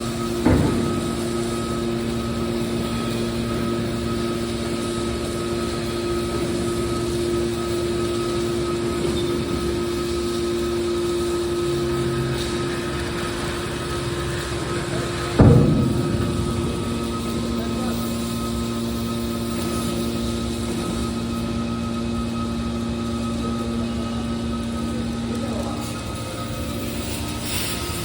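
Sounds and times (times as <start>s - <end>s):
hydraulic motor and pump humming: 0.0s - 28.0s.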